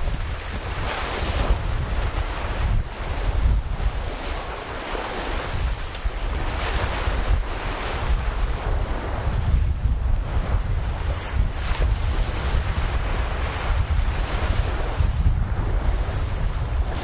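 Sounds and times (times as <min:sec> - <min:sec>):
waves washing against shore: 0:00.0 - 0:17.0
wind buffeting microphone: 0:00.0 - 0:17.0.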